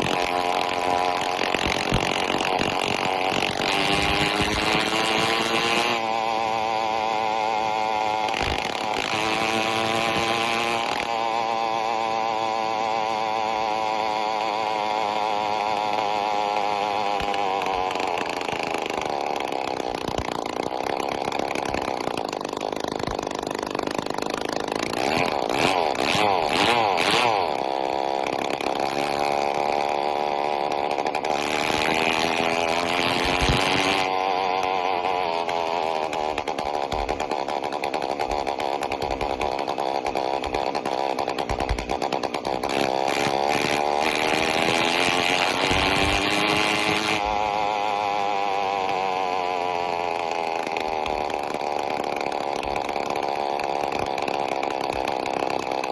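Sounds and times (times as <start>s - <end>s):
two-stroke engine revving: 0.0s - 55.9s.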